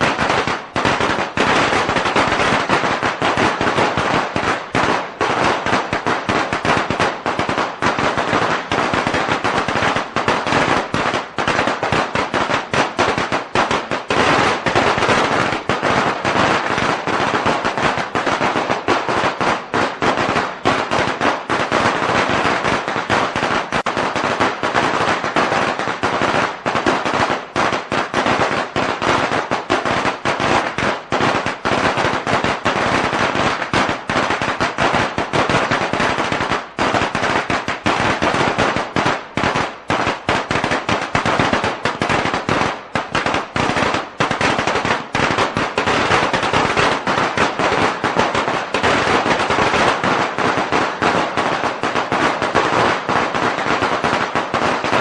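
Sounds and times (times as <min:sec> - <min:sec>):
firecrackers going off: 0:00.0 - 0:55.0.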